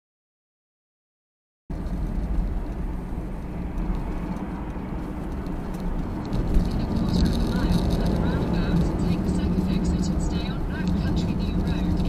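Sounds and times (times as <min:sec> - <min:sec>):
car road and engine rumble: 0:01.7 - 0:12.0.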